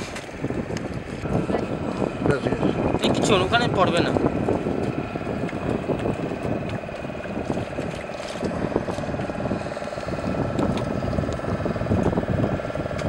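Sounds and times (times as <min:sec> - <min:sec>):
boat motor chugging: 0:00.0 - 0:13.0
low rumble: 0:00.0 - 0:13.0.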